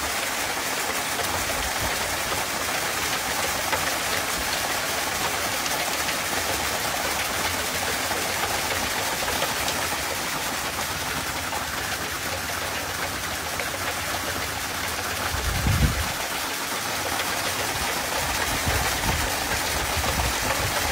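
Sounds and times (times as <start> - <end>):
water jet splashing on metal cups: 0.0 - 20.9.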